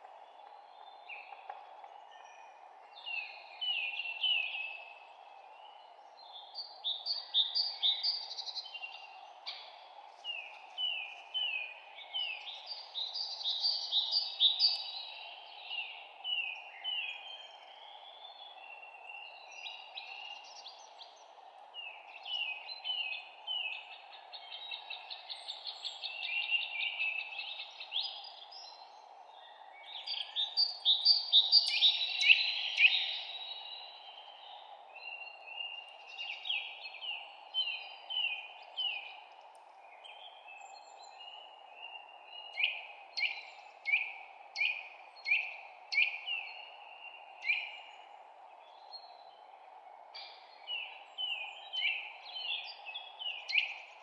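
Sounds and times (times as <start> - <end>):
songbirds chirping: 0.0 - 54.0
steady low background noise: 0.0 - 54.0.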